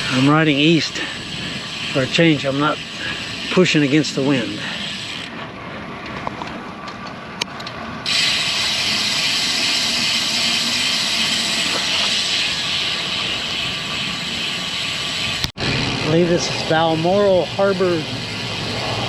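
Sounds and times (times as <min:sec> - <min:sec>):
bicycle road noise: 0:00.0 - 0:19.0.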